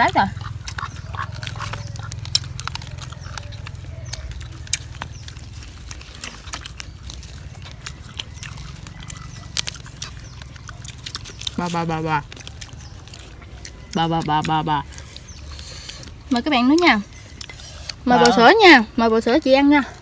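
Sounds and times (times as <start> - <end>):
crispy food crunching: 0.0 - 20.0.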